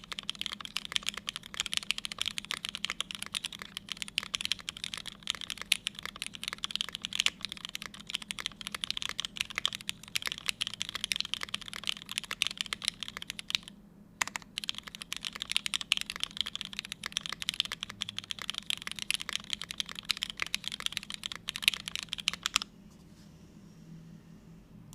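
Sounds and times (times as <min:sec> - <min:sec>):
fast mechanical keyboard typing: 0:00.0 - 0:22.7.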